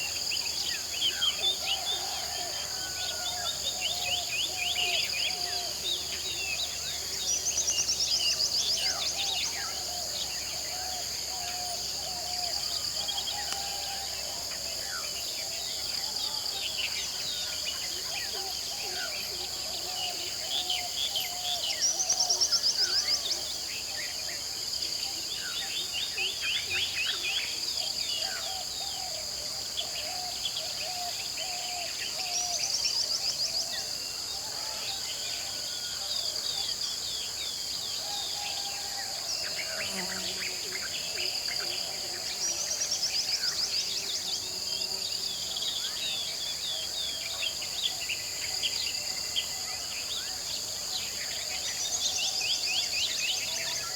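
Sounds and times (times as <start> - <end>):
high insect drone: 0.0 - 53.9.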